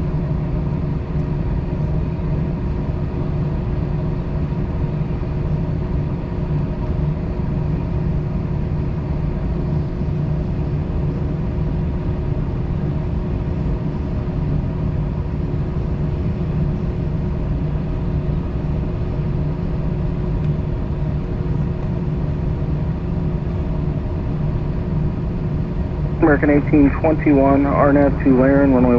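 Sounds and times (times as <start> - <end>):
jet engines idling low rumble: 0.0 - 28.9.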